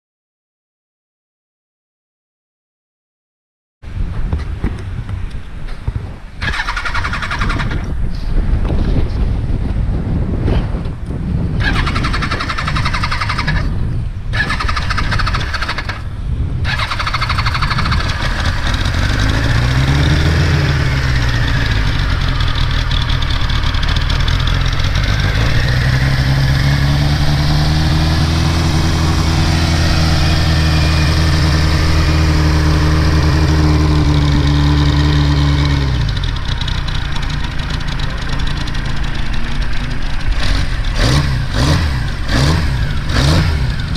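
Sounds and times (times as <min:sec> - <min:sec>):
motorcycle engine revving and idling: 0:06.4 - 0:09.2, 0:11.4 - 0:43.9.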